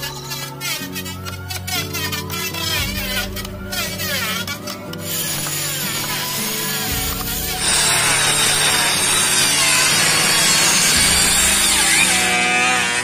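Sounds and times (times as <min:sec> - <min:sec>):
power tool cutting wood: 0:00.0 - 0:13.0.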